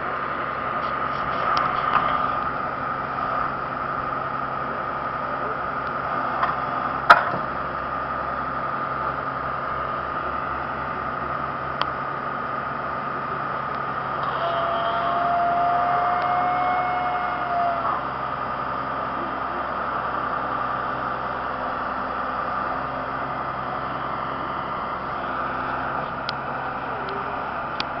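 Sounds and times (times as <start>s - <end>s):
backhoe engine running: 0.0s - 28.0s
high steady whine: 0.0s - 28.0s.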